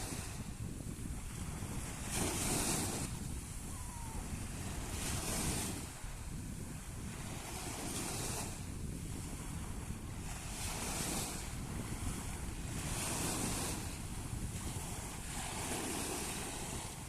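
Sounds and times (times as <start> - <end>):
sea waves washing in: 0.0 - 17.0
wind rumbling on microphone: 0.0 - 17.0.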